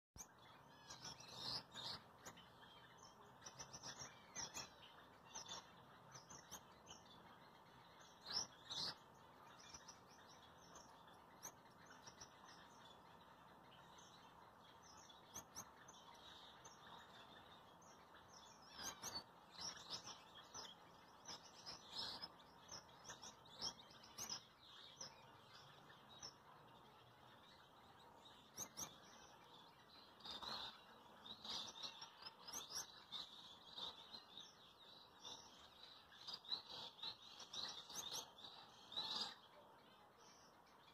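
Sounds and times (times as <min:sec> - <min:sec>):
finches chirping: 0:00.2 - 0:40.9.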